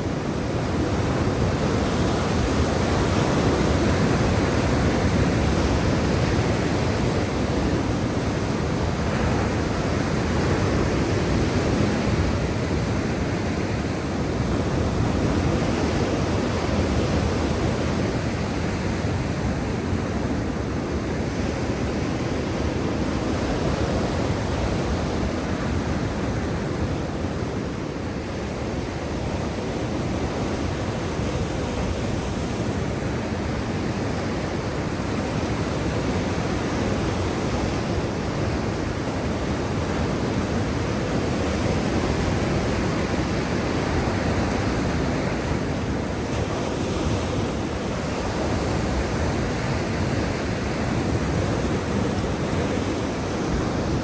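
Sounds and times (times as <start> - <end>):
waves rushing on shore: 0.0 - 54.0.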